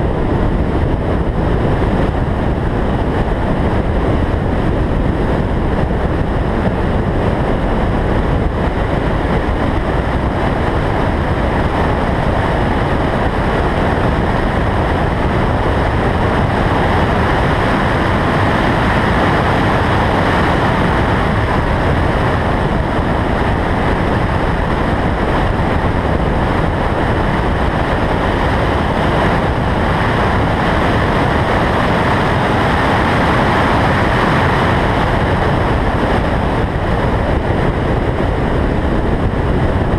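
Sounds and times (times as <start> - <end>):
road and car noise: 0.0 - 39.9
wind rushing over camera: 0.0 - 39.9.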